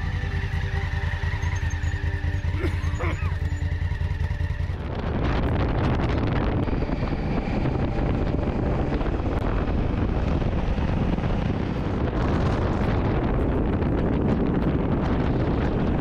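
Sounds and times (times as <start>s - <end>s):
motorcycle engine running: 0.0s - 16.0s
wind noise on microphone: 0.0s - 16.0s.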